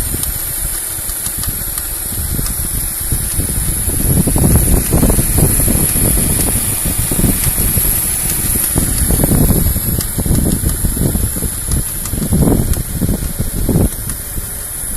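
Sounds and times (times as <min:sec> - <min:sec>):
car engine running: 0:00.0 - 0:14.9
engine bay rattle: 0:00.0 - 0:14.9
steady high hiss: 0:00.0 - 0:14.9.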